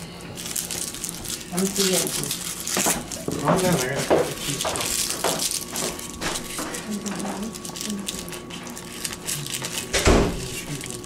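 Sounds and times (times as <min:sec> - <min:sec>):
garlic skins crackling and rustling: 0:00.0 - 0:11.0.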